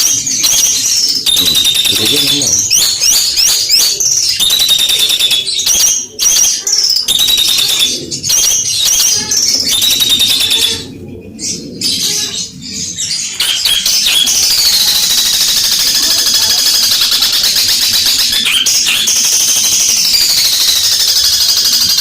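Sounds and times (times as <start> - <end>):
bird singing harsh chattering notes: 0.0 - 22.0.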